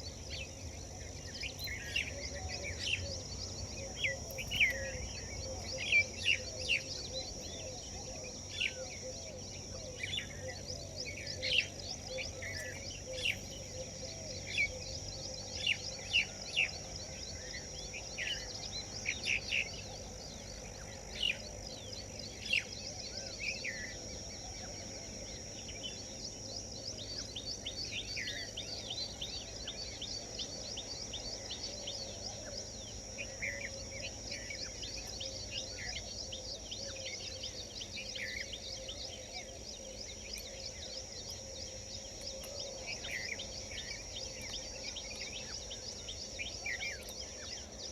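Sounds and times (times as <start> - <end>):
bird chirps: 0.0 - 47.9
high insect drone: 0.0 - 47.9.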